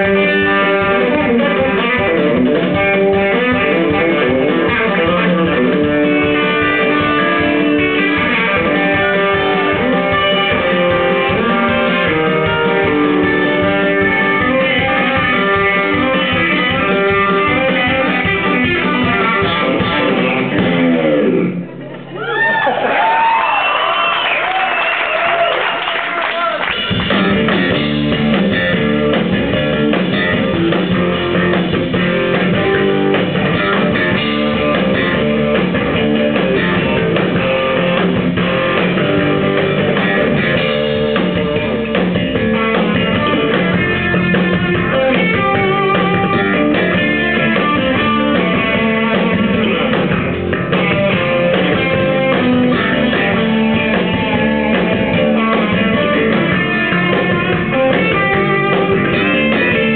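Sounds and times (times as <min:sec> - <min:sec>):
electric bass: 0:00.0 - 0:22.3, 0:26.7 - 0:59.9
electric guitar: 0:00.0 - 0:22.6, 0:25.5 - 0:59.9
drums: 0:00.0 - 0:59.9.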